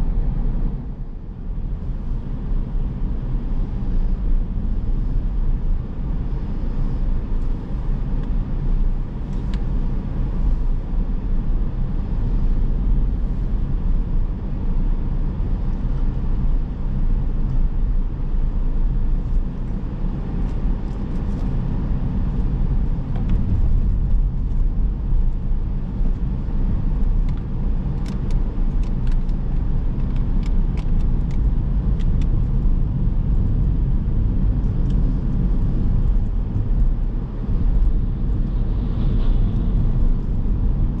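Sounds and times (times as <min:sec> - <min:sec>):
car engine and tyre rumble: 0:00.0 - 0:41.0.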